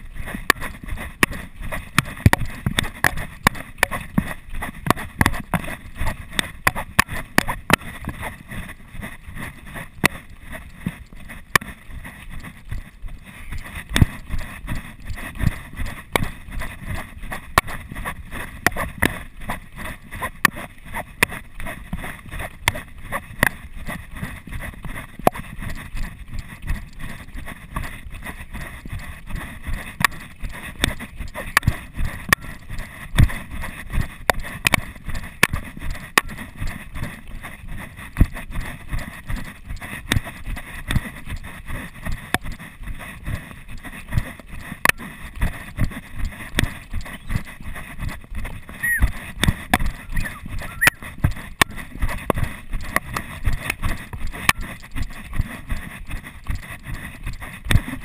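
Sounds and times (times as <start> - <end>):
running footsteps on dirt trail: 0.0 - 58.0.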